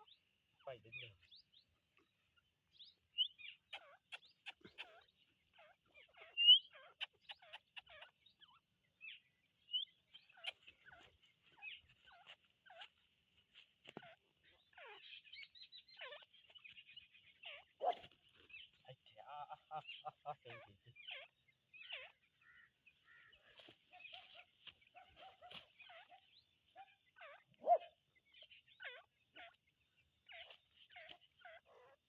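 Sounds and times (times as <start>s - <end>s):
partridge chirping and clucking: 0.0s - 32.0s.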